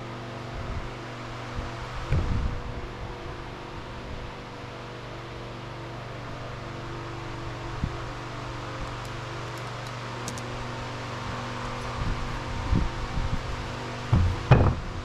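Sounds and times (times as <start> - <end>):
fan motor hum: 0.0 - 15.0.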